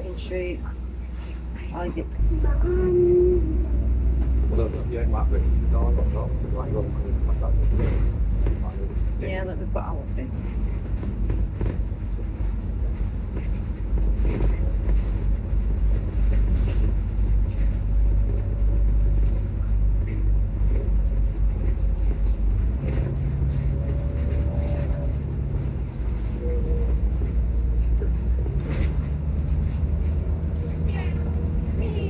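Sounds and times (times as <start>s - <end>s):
bus engine and road rumble: 0.0s - 32.0s
deep hum: 2.0s - 32.0s.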